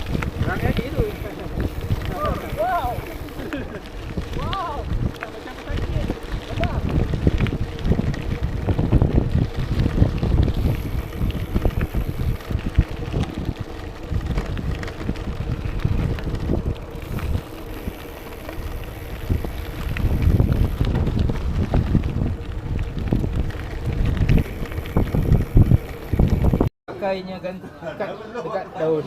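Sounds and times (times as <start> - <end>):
wind buffeting microphone: 0.0 - 26.7.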